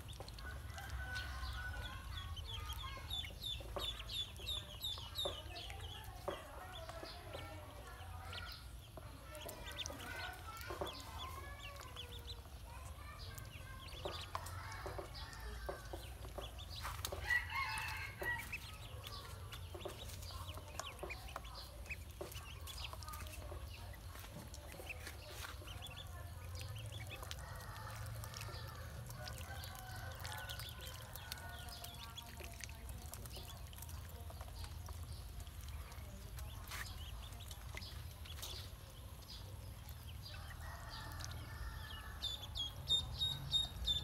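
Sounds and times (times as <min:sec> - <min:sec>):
ducklings peeping: 0:00.0 - 0:44.0
small water splashes: 0:00.0 - 0:44.0.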